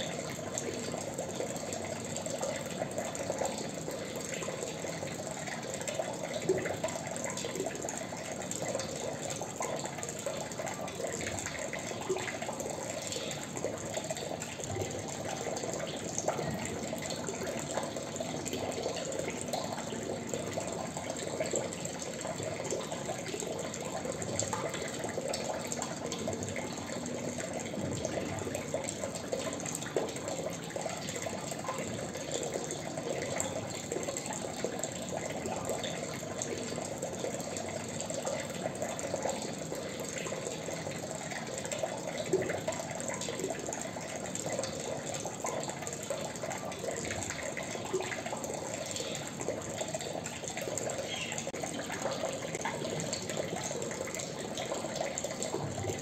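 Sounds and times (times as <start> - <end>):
water dripping and trickling: 0.0 - 56.0.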